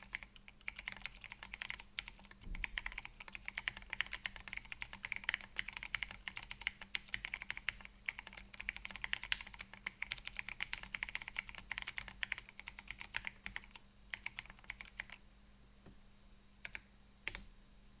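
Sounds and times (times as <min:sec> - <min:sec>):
mechanical keyboard typing: 0:00.0 - 0:15.2, 0:16.6 - 0:17.4.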